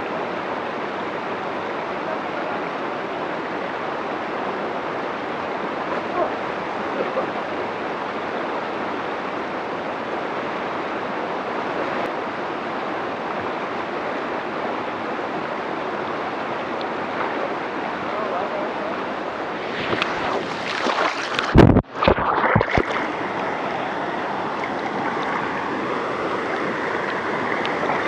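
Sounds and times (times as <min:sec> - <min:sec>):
waterfall rushing: 0:00.2 - 0:28.0.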